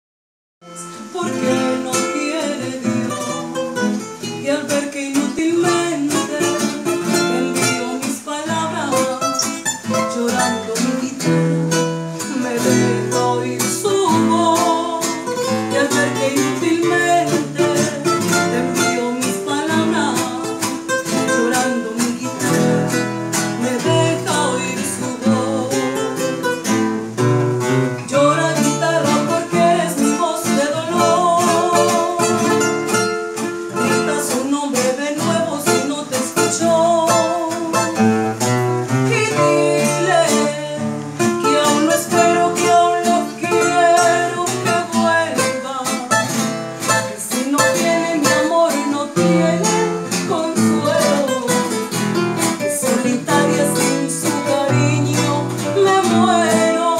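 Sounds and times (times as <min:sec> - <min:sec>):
woman singing: 0:00.6 - 0:27.2, 0:28.0 - 0:56.9
plucked acoustic guitars: 0:00.6 - 0:56.9.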